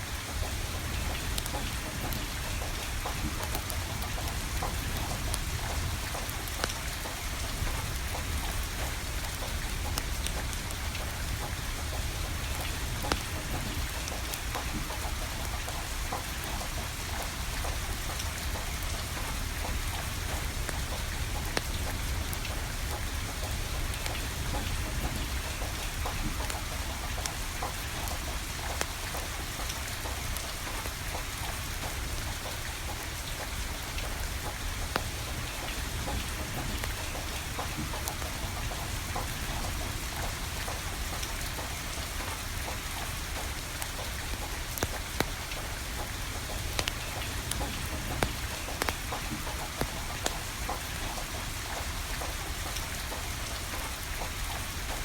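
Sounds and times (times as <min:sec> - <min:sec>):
rain falling: 0:00.0 - 0:55.0
wood fire crackling: 0:00.1 - 0:55.0.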